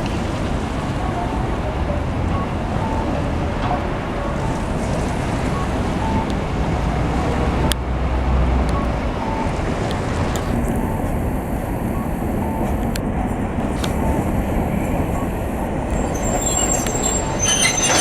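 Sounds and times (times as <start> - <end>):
trams and traffic rumble: 0.0 - 18.0.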